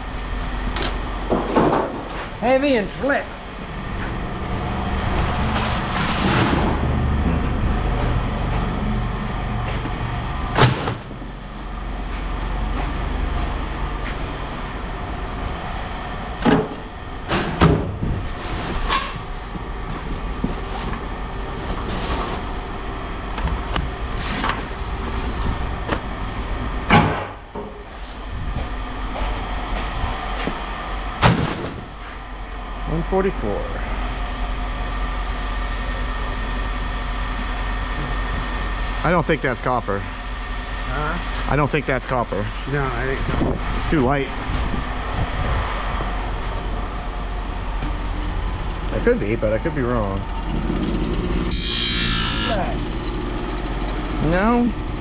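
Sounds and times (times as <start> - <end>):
low engine-like rumble: 0.0 - 51.5.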